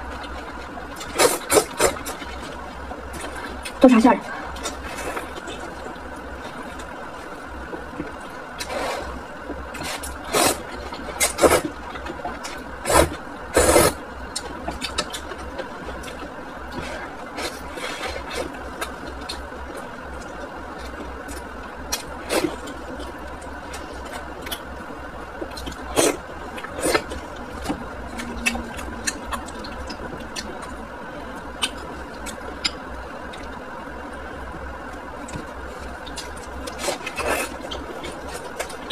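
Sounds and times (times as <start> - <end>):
food chewing and smacking: 0.0 - 3.8, 4.5 - 38.9
steady hum: 0.0 - 38.9.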